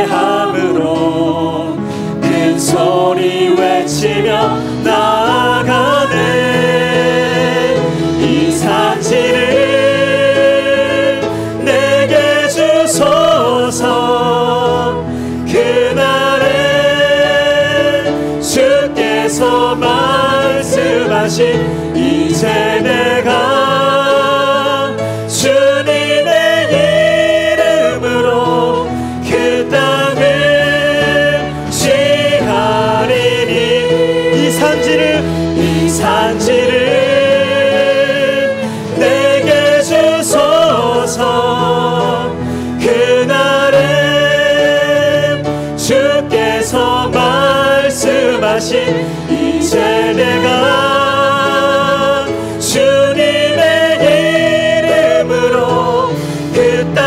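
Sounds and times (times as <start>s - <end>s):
group singing worship song: 0.0s - 57.0s
instrumental accompaniment: 0.0s - 57.0s.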